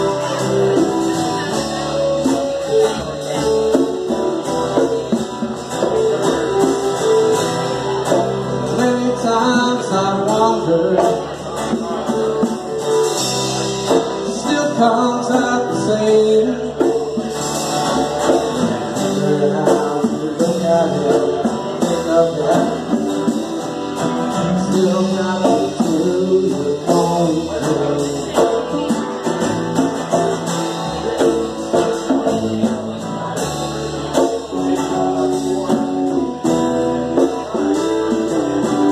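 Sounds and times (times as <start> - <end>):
bass guitar: 0.0 - 38.9
drums: 0.0 - 38.9
electric guitars: 0.0 - 38.9.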